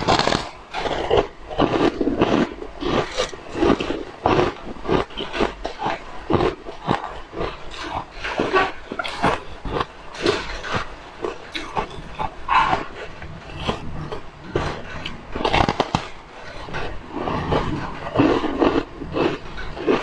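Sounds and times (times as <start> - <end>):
crunching frozen ice: 0.0 - 20.0
wet mouth sounds: 0.0 - 20.0.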